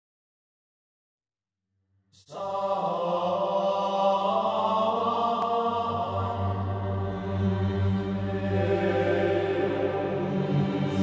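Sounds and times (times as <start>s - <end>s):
drone-like chant: 2.2s - 11.0s.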